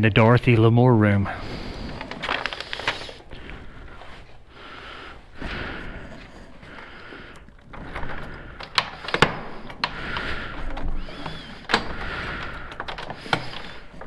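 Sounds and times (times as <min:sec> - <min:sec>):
rustling: 0:01.4 - 0:14.0.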